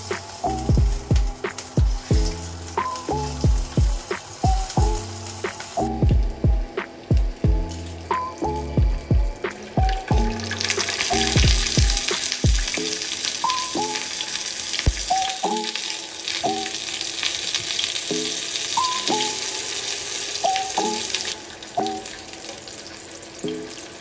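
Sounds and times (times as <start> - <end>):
background music: 0.0 - 24.0
oil sizzling in a frying pan: 0.0 - 24.0.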